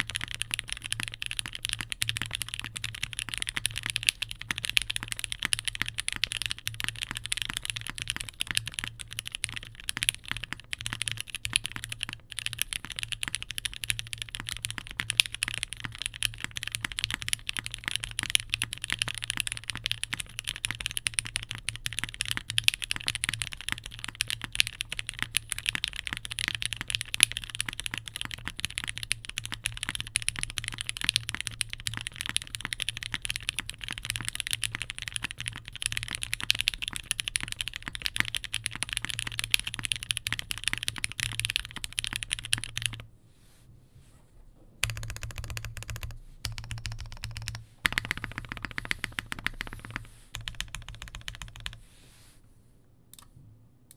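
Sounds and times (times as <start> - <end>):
fast typing on mechanical keyboard: 0.0 - 43.0, 44.8 - 51.8.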